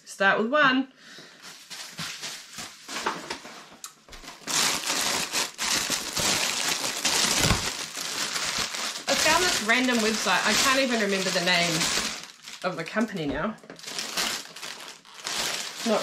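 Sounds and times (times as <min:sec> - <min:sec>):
packing peanuts rustling: 0:01.4 - 0:16.0.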